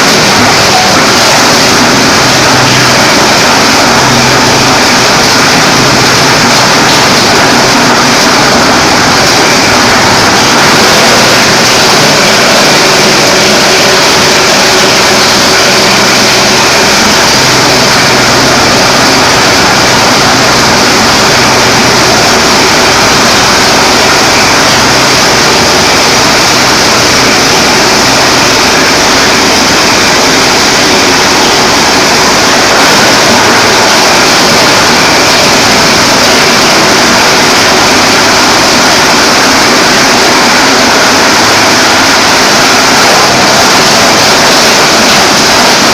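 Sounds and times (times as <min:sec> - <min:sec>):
plastic grinder machine running: 0:00.0 - 0:45.9.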